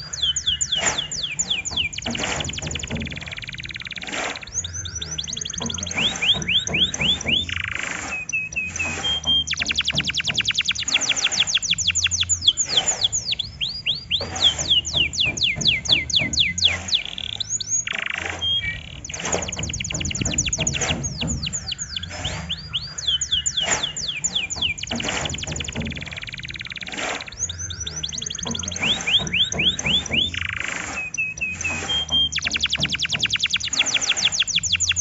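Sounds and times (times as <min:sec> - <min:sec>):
canary singing fast trills: 0:00.0 - 0:35.0.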